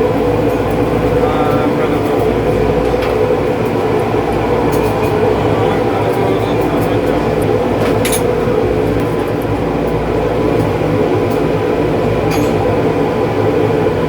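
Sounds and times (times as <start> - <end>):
machine drone: 0.0 - 14.0.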